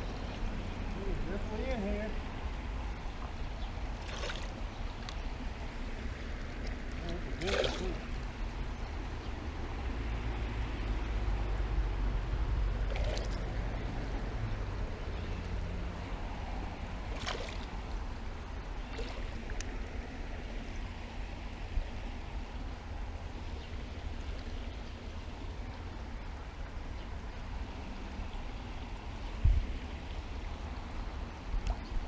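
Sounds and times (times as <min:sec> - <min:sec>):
creek water flowing: 0:00.0 - 0:32.0.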